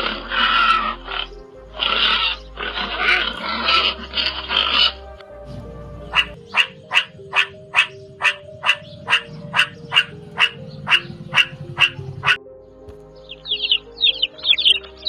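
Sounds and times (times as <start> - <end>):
meerkats barking: 0.0 - 12.4.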